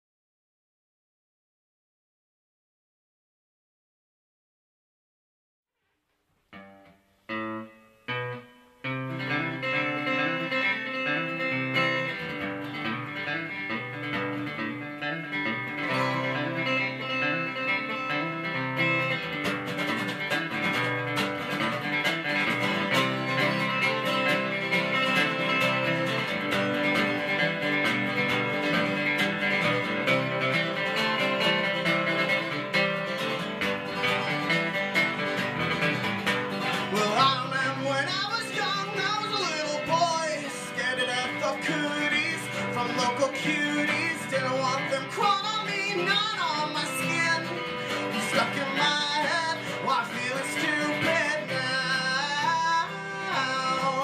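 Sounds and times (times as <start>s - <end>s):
acoustic guitars strumming and picking: 7.4s - 54.0s.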